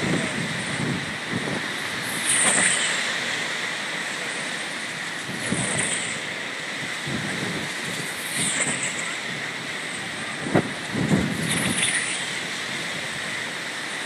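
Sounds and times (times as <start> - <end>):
wind buffeting microphone: 0.0 - 3.5, 5.1 - 13.5.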